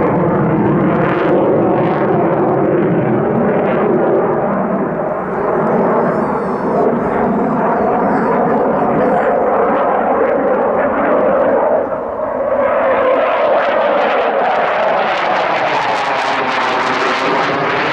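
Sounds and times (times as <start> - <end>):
jet engine roar: 0.0 - 17.9.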